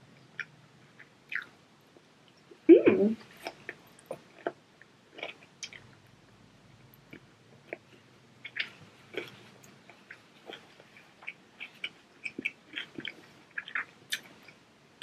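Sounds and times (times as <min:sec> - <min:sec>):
chewing sausage: 0:00.2 - 0:01.6, 0:03.2 - 0:15.0.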